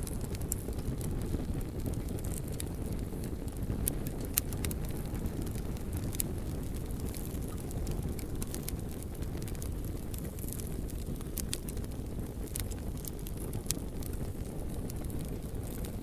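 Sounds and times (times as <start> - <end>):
wood crackling and popping: 0.0 - 16.0.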